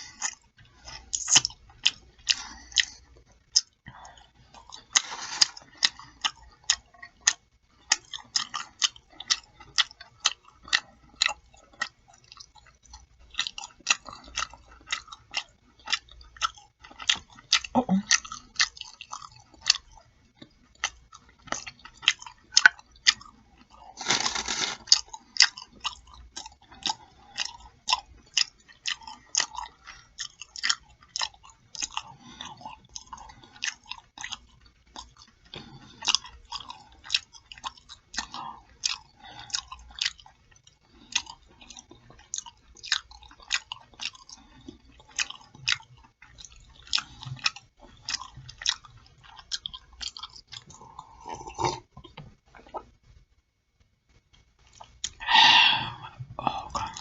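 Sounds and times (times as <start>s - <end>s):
chewing and lip-smacking: 0.0s - 53.2s, 53.8s - 55.3s, 56.4s - 57.0s.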